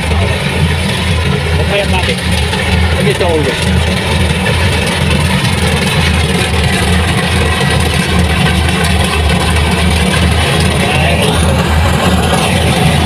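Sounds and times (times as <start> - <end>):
heavy farm machinery engine running: 0.0 - 13.0.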